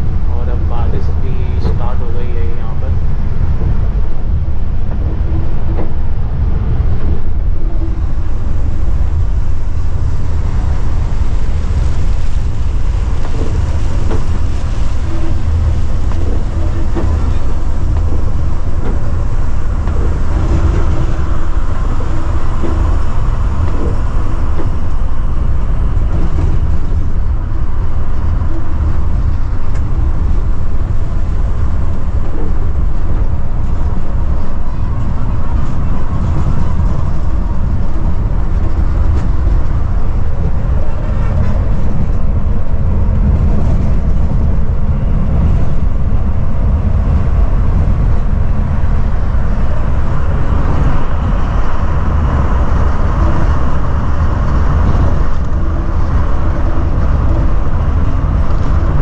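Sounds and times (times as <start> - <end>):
coach engine drone: 0.0 - 59.0.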